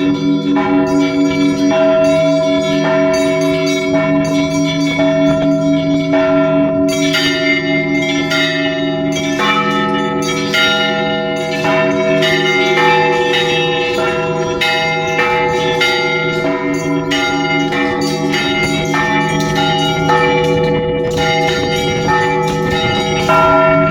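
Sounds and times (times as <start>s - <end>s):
church bells ringing: 0.0s - 23.9s.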